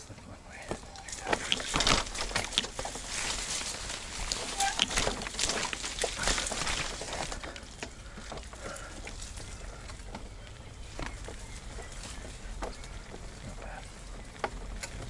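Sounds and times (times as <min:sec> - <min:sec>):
leaves and brush rustling: 0:00.2 - 0:15.0
tyres crunching on dirt and stones: 0:00.5 - 0:15.0.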